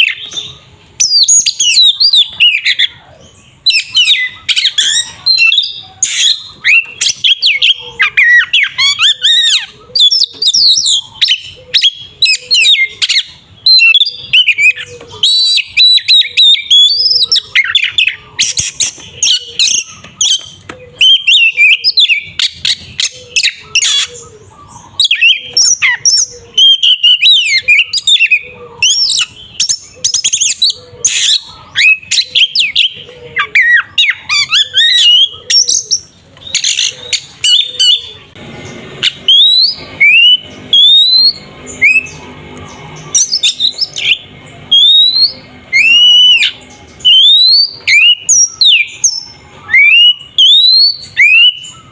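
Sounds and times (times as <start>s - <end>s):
songbird whistling and trilling: 0.0s - 38.4s, 39.0s - 51.9s
bird harsh chattering: 0.0s - 51.9s.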